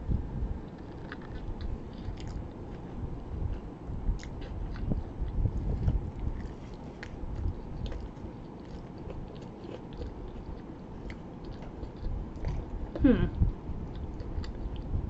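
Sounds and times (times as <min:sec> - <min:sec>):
person chewing food: 0:00.7 - 0:13.0, 0:13.8 - 0:14.9.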